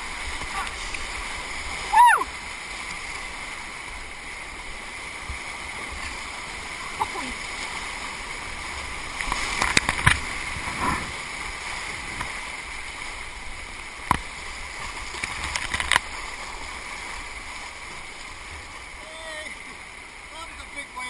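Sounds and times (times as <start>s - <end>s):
paddle splashes: 0.0s - 21.0s
rushing whitewater: 0.0s - 21.0s.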